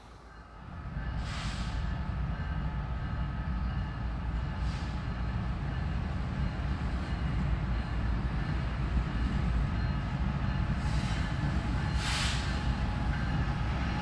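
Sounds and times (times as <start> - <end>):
diesel train rumble: 0.0 - 14.0.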